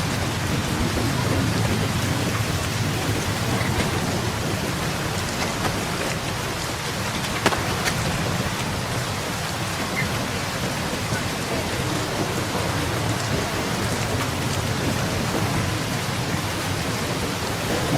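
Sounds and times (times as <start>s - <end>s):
heavy rain hissing: 0.0s - 17.9s.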